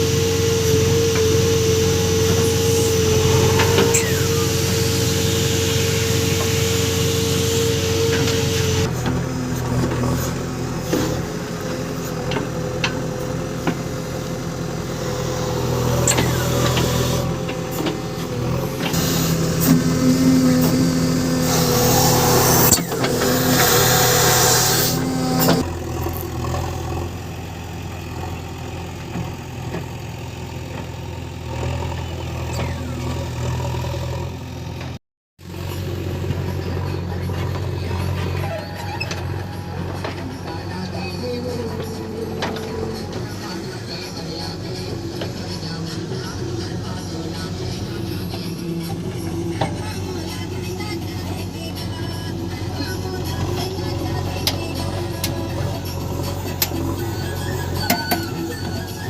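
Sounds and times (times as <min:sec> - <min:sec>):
steady whine: 0:00.0 - 0:25.7, 0:35.6 - 0:59.0
diesel engine running: 0:00.0 - 0:59.0.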